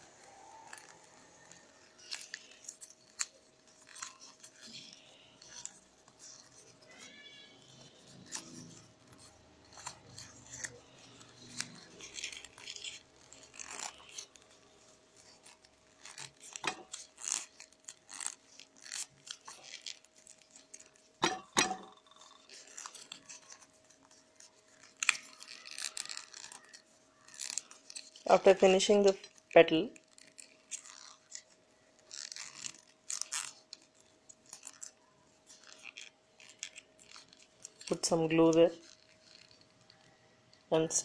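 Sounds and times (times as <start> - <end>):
newspaper rustling and crinkling: 0.0 - 41.0.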